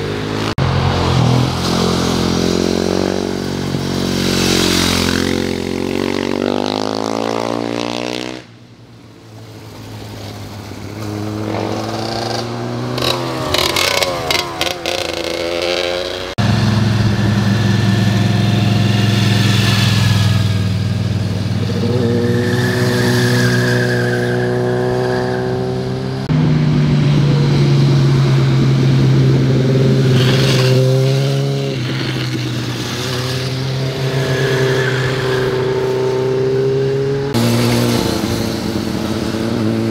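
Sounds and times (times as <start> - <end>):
motorcycle engines through bend: 0.0 - 8.5, 9.4 - 39.9.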